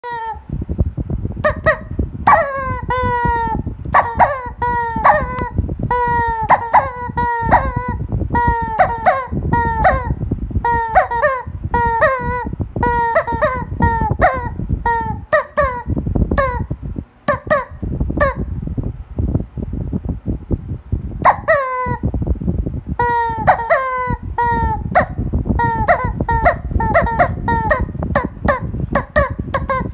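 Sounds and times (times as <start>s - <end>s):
rubber chicken toy squawking: 0.0s - 0.4s, 1.4s - 16.7s, 17.3s - 18.5s, 21.2s - 22.1s, 23.0s - 29.9s.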